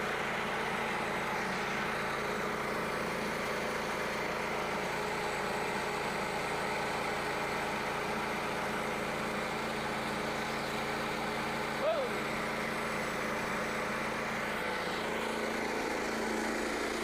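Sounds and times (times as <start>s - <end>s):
small gas engine running: 0.0s - 17.0s.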